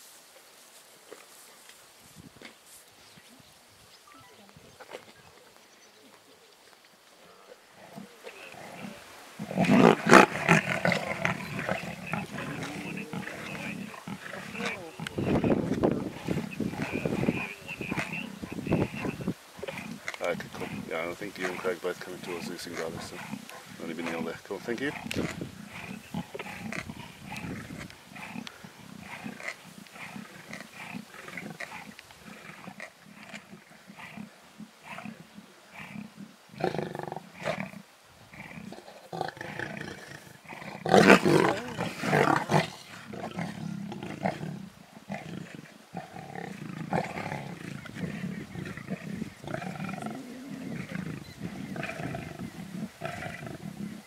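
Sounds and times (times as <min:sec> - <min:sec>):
lions growling and snarling: 0:07.2 - 0:54.0.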